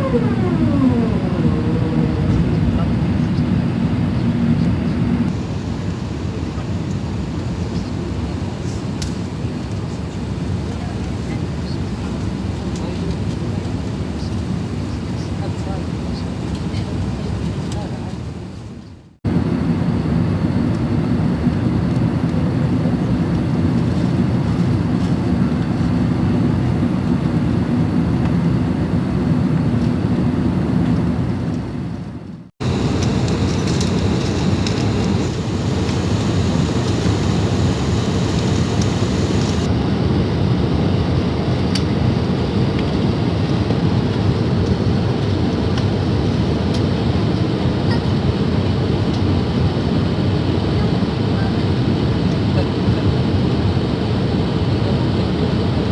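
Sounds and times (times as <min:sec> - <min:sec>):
airplane cabin engine noise: 0:00.0 - 0:55.9.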